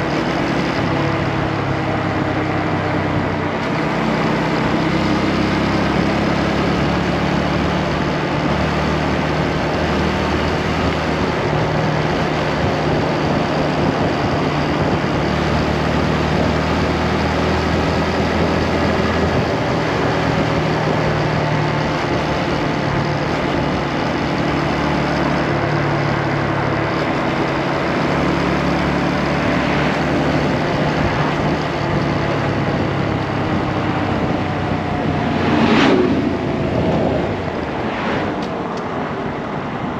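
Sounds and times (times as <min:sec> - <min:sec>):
motorcycle engine running: 0:00.0 - 0:37.8.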